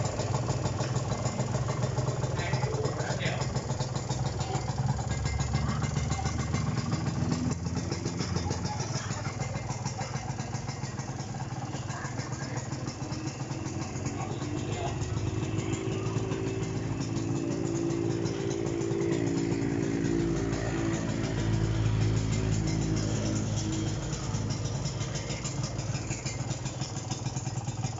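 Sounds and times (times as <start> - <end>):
two-stroke motorcycle engine running: 0.0 - 27.9.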